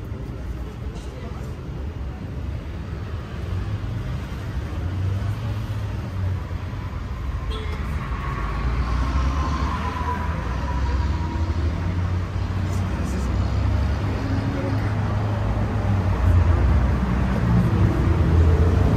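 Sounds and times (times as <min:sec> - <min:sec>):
traffic rumble: 0:00.0 - 0:18.9.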